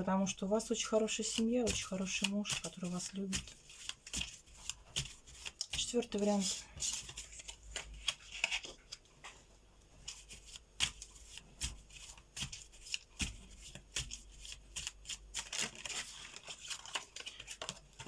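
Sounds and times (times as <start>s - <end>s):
cards being shuffled: 1.0s - 9.0s, 10.0s - 18.0s.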